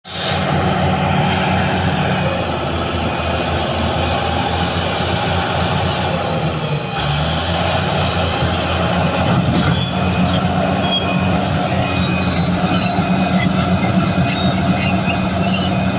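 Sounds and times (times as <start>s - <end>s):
bulldozer diesel engine running: 0.0s - 15.9s.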